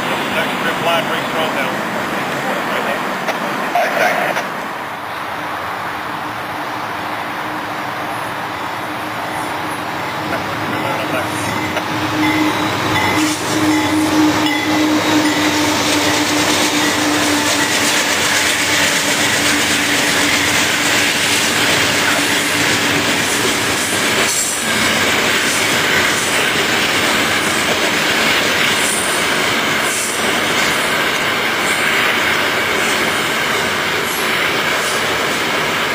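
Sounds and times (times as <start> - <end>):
train drone: 0.0 - 35.9
wheels clattering and squealing on rails: 6.4 - 35.9.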